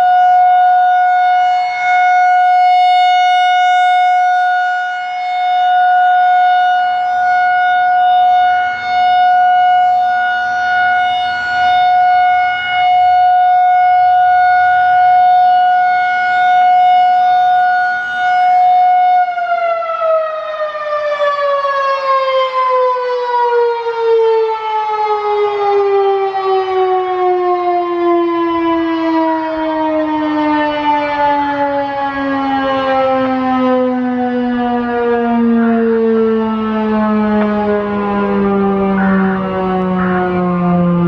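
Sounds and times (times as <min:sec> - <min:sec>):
rotating warning siren winding down: 0:00.0 - 0:41.0.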